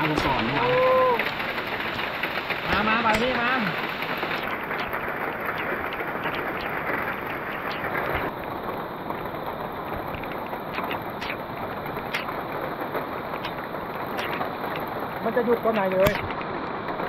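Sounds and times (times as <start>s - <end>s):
heavy rain pouring: 0.0s - 17.0s
sharp raindrop hits: 0.0s - 17.0s.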